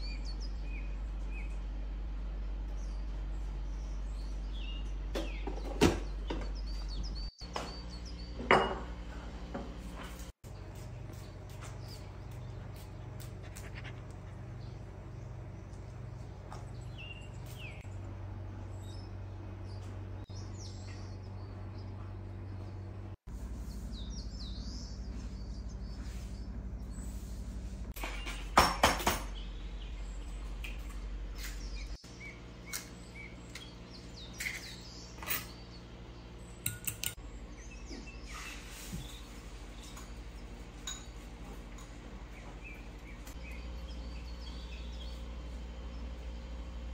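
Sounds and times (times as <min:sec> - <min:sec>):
birds chirping: 0:00.0 - 0:46.9
low hum: 0:06.2 - 0:28.4, 0:29.3 - 0:46.9.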